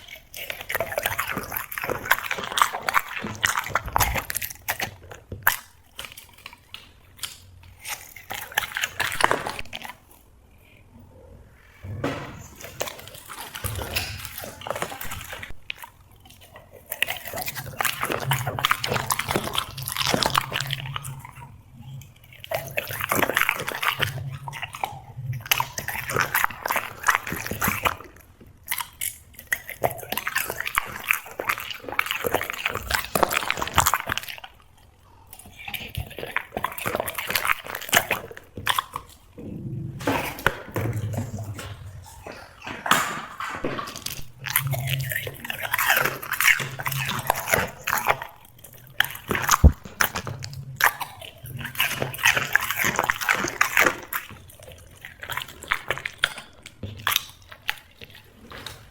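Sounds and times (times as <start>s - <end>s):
dog chewing and crunching food: 0.0s - 58.9s.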